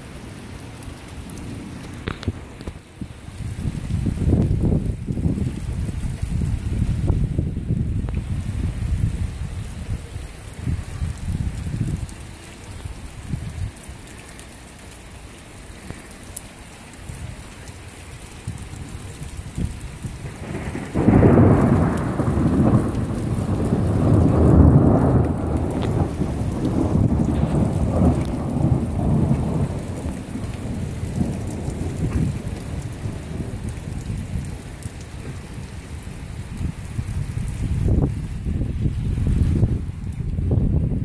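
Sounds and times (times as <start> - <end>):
steady rain: 0.0 - 41.0
thunderclap and rumble: 1.2 - 13.9, 18.4 - 41.0.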